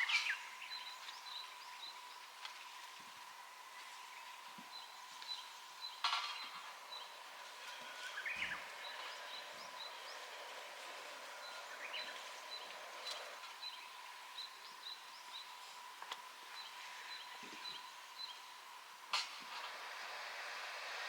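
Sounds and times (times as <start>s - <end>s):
small birds chirping: 0.0s - 19.0s
faint steady hum: 0.0s - 21.0s.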